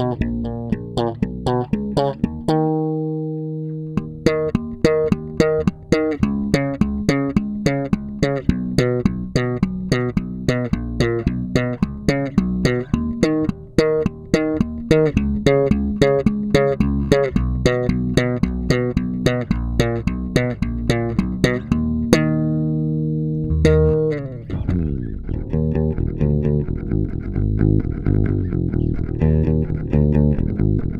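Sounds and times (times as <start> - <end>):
electric bass plucked fingerstyle: 0.0 - 30.9.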